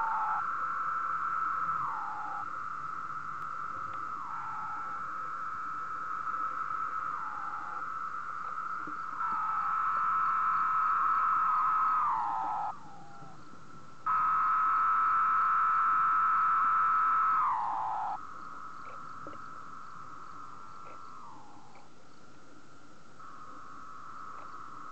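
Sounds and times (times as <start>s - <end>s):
cicada buzzing: 0.0s - 21.9s, 23.2s - 24.9s
cicada calls with falling slur: 0.0s - 24.9s.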